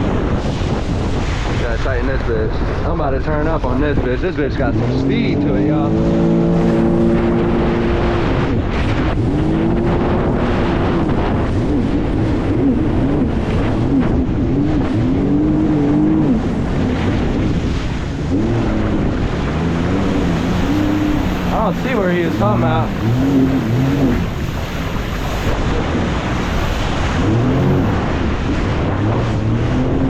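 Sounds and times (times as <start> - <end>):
jet ski engine running: 0.0 - 30.0
rush of wind and water: 0.0 - 30.0.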